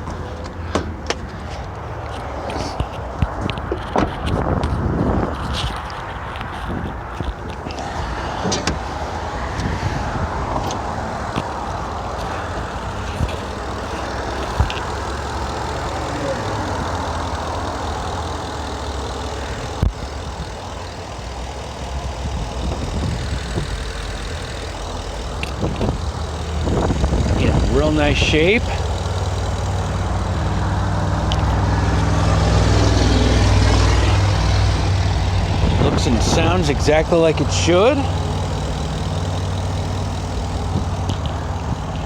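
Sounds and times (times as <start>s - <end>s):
pickup engine idling: 0.0s - 42.0s.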